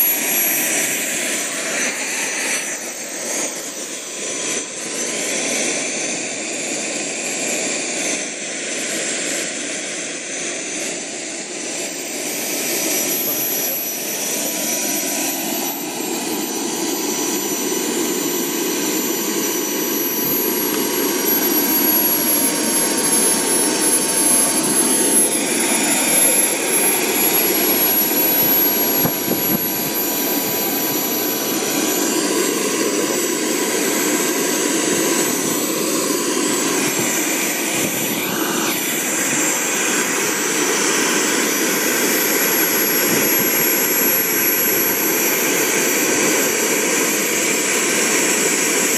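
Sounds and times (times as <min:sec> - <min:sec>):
small gas turbine whining: 0:00.0 - 0:48.9.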